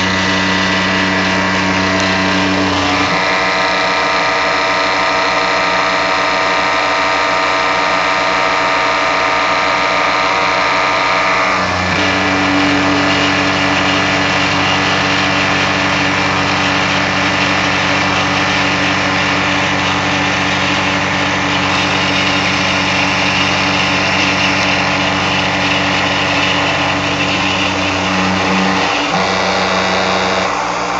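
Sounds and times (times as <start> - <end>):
deep steady buzz: 0.0 - 30.9
milling machine whine: 0.0 - 30.9.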